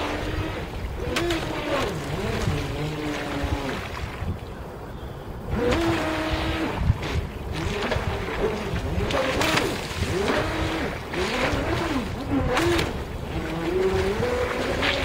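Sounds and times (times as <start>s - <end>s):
electric motor whining: 0.0s - 3.8s, 5.5s - 6.9s, 7.6s - 15.0s.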